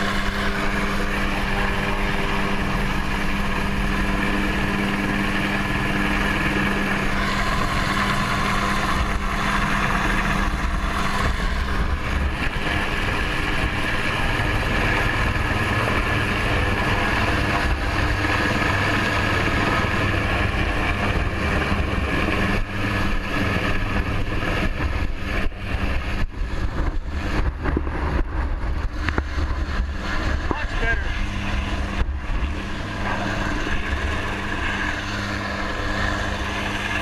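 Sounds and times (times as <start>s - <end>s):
helicopter rotor and turbine: 0.0s - 37.0s
rotor wash buffeting microphone: 0.0s - 37.0s.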